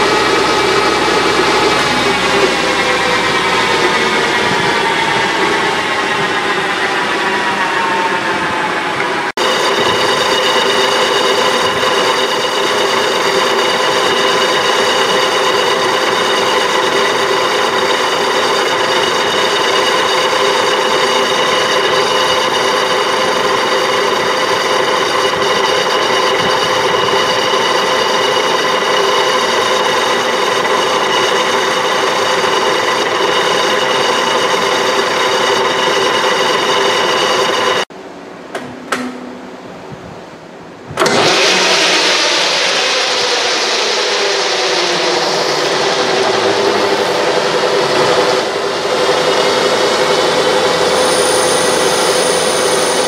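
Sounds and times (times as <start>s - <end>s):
lathe running quietly: 0.0s - 37.9s, 41.0s - 53.0s
metal lathe cutting with high whine: 0.0s - 37.9s, 41.0s - 53.0s.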